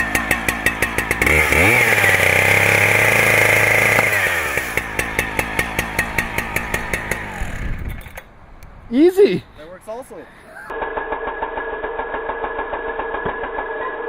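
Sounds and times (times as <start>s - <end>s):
chainsaw idling and revving: 0.0s - 8.6s, 11.2s - 14.0s.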